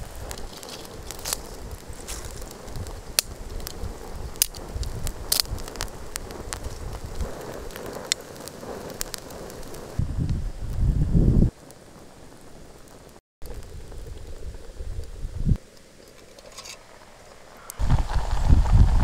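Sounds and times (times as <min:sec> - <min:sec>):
sharp fire pops: 0:00.0 - 0:19.0
wood fire crackling: 0:00.0 - 0:19.0.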